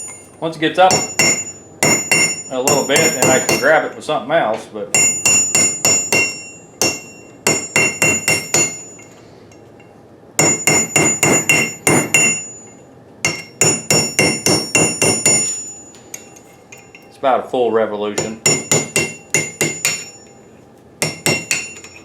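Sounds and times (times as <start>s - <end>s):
hammer striking metal chisel: 0.0s - 3.9s, 5.0s - 17.1s, 18.2s - 20.4s, 21.0s - 22.0s.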